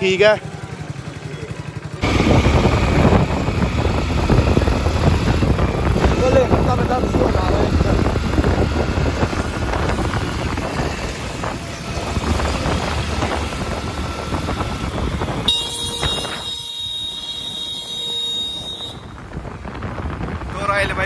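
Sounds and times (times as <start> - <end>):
motorcycle engine: 0.0 - 21.0
wind rushing over microphone: 2.0 - 21.0.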